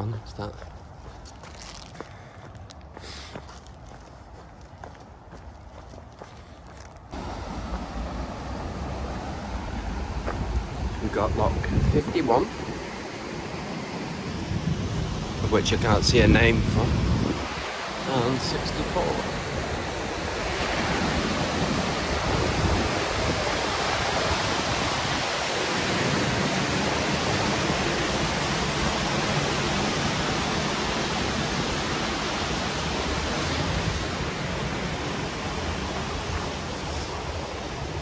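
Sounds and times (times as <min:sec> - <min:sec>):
water rushing at a lock: 0:07.1 - 0:38.0.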